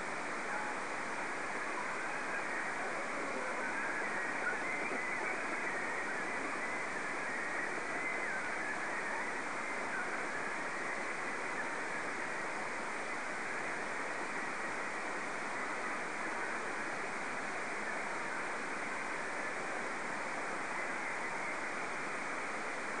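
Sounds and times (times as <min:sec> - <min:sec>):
radio static and hiss: 0:00.0 - 0:23.0
faint wavering whistle: 0:00.1 - 0:23.0.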